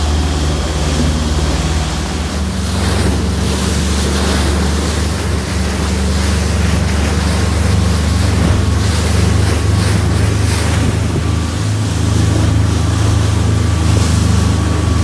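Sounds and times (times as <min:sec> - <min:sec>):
boat engine drone: 0:00.0 - 0:15.0
water rushing and spray: 0:00.0 - 0:15.0
wind buffeting microphone: 0:00.0 - 0:15.0.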